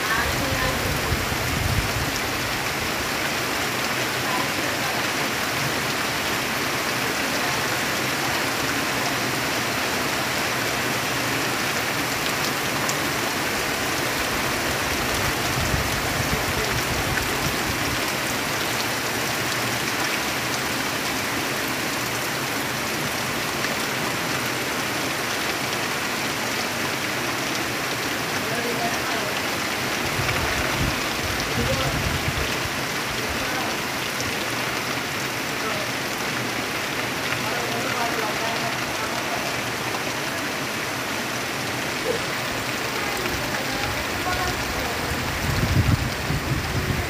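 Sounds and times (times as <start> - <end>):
heavy rain on leaves: 0.0 - 47.0.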